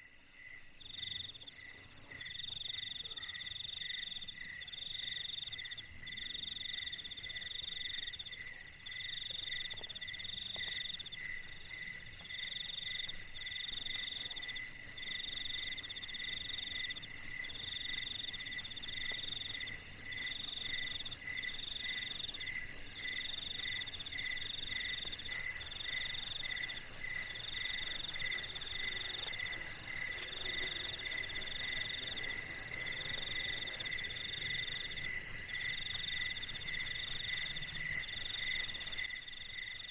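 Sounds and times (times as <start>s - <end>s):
high continuous insect trill: 0.0s - 39.9s
low pulsing insect call: 0.0s - 39.9s
mid-pitched repeating insect call: 0.0s - 39.9s.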